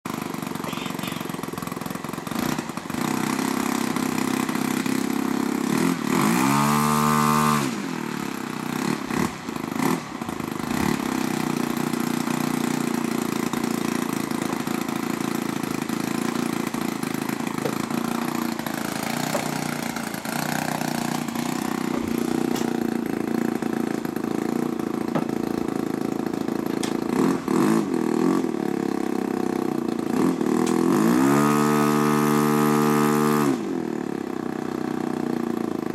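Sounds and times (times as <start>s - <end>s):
model airplane engine running: 0.1s - 35.9s.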